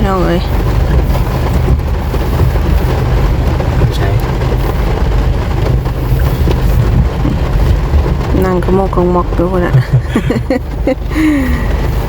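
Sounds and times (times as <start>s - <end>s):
vehicle engine running: 0.0s - 12.0s
wind buffeting microphone: 0.0s - 12.0s.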